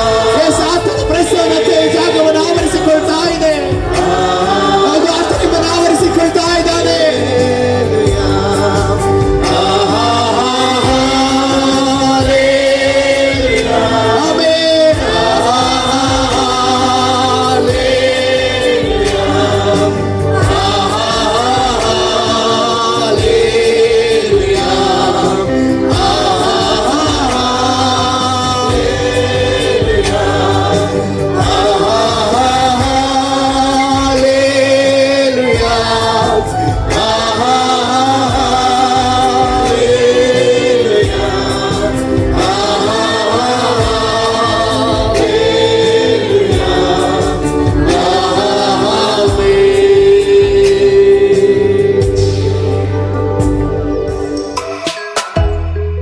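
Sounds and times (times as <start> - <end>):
group singing gospel: 0.0 - 55.0
instrumental accompaniment: 0.0 - 56.0.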